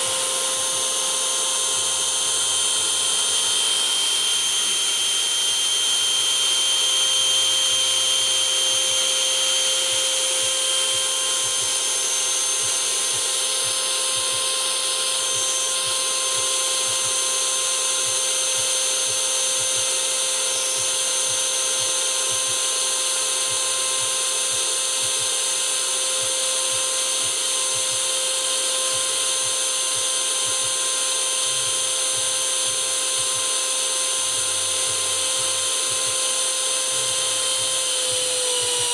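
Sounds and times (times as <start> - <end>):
model jet turbine whine: 0.0 - 38.9.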